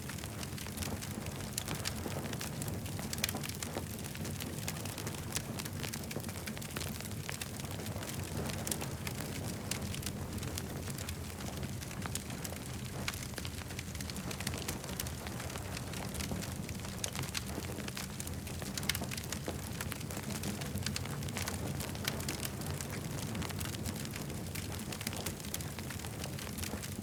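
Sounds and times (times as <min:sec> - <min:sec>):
campfire low rumble: 0:00.0 - 0:27.0
fire crackling and popping: 0:00.0 - 0:27.0.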